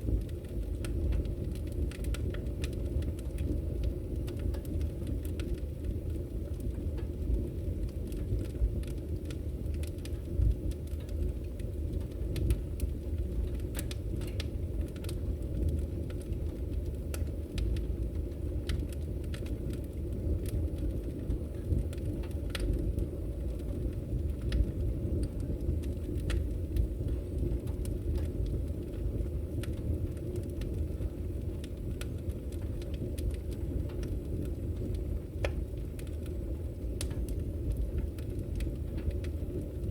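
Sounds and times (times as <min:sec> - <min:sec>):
log fire crackling and popping: 0:00.0 - 0:39.9
low rumble of burning: 0:00.0 - 0:39.9.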